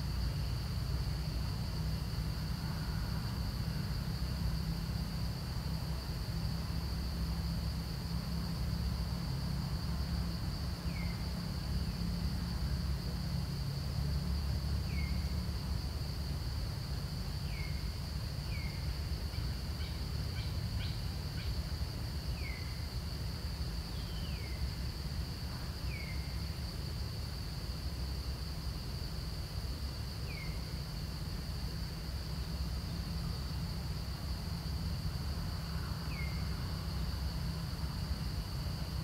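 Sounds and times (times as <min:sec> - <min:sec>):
high insect drone: 0:00.0 - 0:39.0
low steady rumble: 0:00.0 - 0:39.0.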